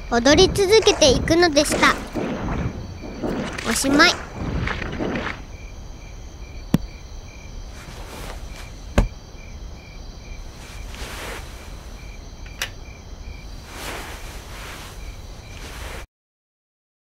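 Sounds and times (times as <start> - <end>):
crickets chirping: 0.0 - 16.1.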